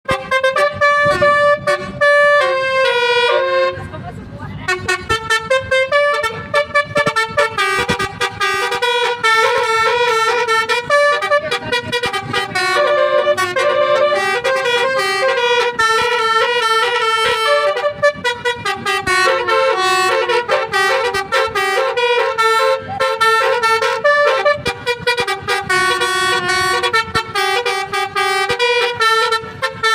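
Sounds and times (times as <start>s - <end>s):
musical bus horn tune: 0.0s - 4.0s, 4.6s - 29.9s.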